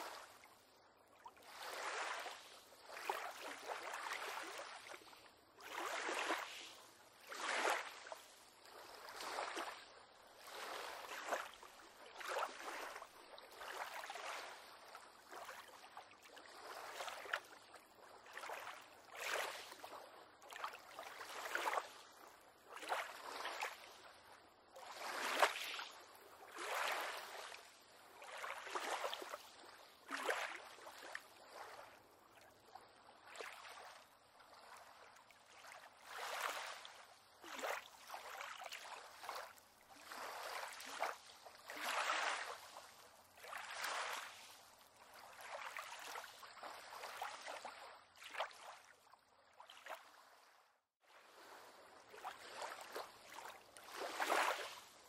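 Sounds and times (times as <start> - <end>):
waves lapping against a pier: 0.0 - 55.0.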